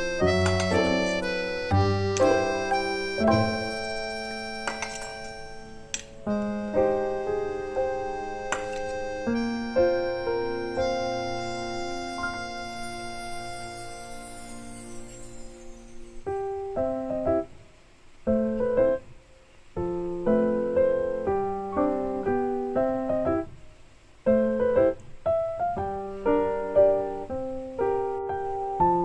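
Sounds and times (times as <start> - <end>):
piano music: 0.0 - 17.6, 19.8 - 23.5, 24.3 - 29.0.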